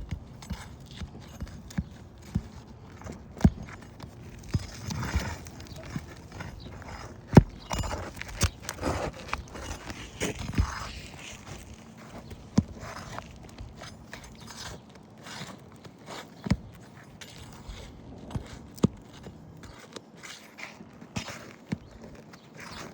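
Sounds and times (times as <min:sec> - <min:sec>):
scraping on shingle roof: 0:00.0 - 0:22.9
shuffling steps: 0:00.0 - 0:22.9.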